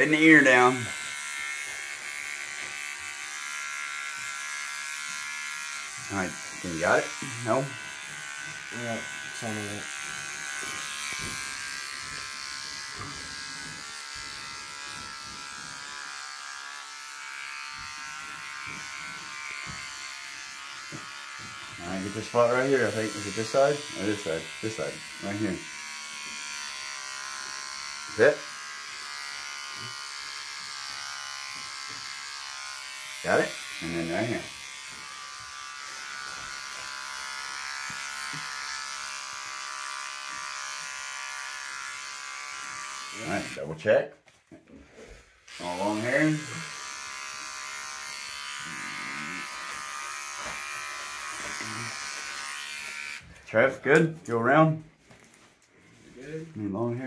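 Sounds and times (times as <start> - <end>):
electric hair clippers buzzing: 0.0 - 43.9, 45.0 - 54.4.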